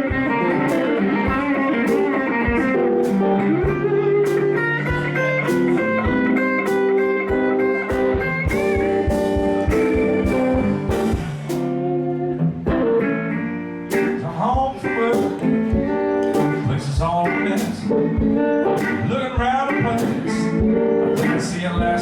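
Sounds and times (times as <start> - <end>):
drum hits: 0.0 - 11.7, 12.7 - 13.0, 13.9 - 22.0
blues band playing: 0.0 - 22.0
electric guitar lines: 0.0 - 22.0.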